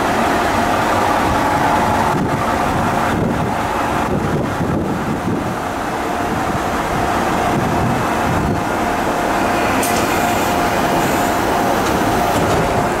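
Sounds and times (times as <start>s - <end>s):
diesel railcar engine idling: 0.0s - 13.0s.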